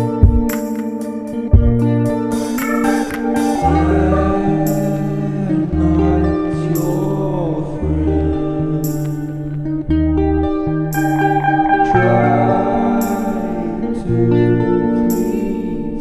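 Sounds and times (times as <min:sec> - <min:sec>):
song with vocal and guitar: 0:00.0 - 0:16.0.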